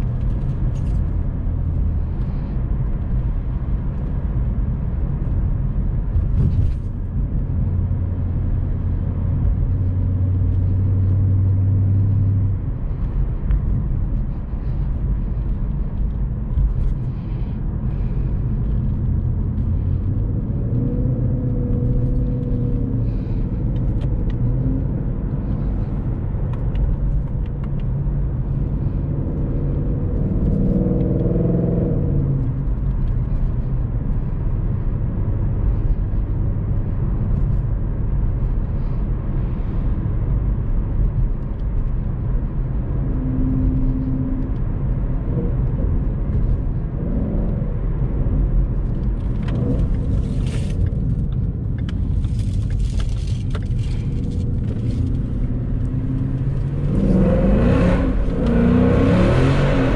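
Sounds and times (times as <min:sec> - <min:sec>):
car engine running: 0:00.0 - 0:59.9
road noise: 0:00.0 - 0:59.9.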